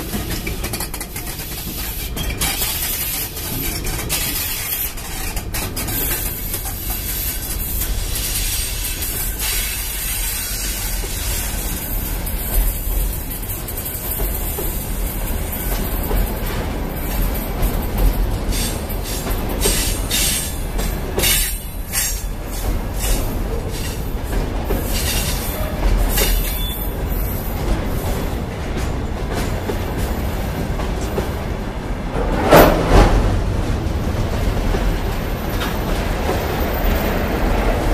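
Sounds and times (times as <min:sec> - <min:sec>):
freight train rolling past: 0:00.0 - 0:37.9
wheels clacking over rail joints: 0:00.0 - 0:37.9.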